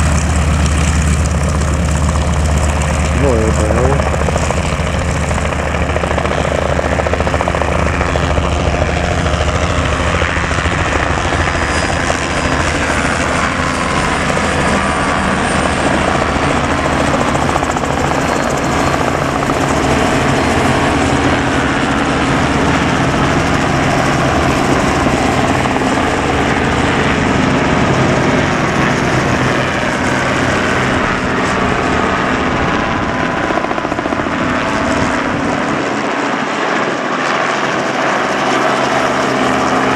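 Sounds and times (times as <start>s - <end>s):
helicopters flying overhead: 0.0s - 39.9s.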